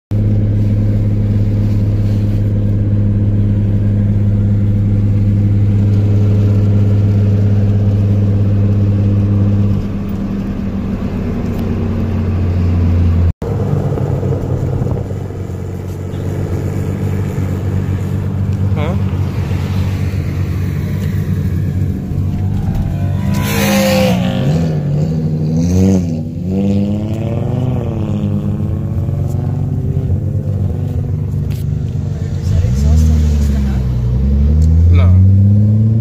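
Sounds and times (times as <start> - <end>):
car engine running: 0.1 - 36.0.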